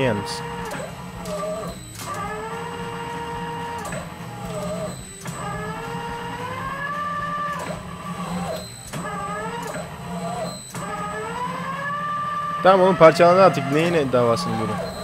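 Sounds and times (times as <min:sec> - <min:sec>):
shredder motor hum and whine: 0:00.0 - 0:15.0.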